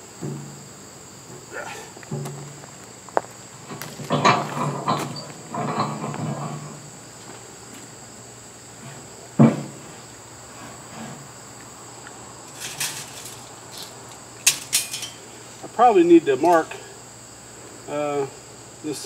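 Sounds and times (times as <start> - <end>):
crickets droning: 0.0 - 19.0.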